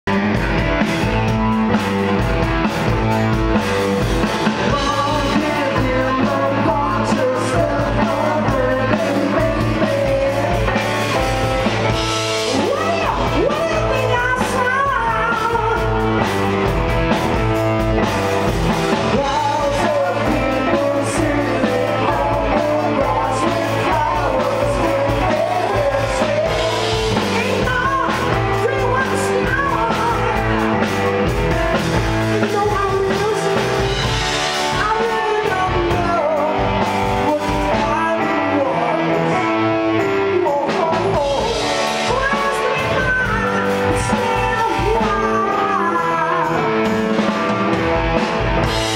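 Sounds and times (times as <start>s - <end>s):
drums: 0.0s - 48.9s
electric guitar: 0.0s - 48.9s
person singing: 0.1s - 48.9s.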